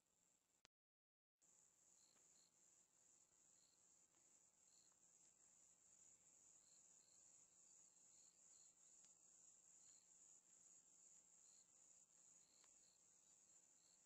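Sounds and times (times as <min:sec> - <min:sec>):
insect chirps: 0:01.4 - 0:14.0
insects trilling: 0:01.5 - 0:14.0.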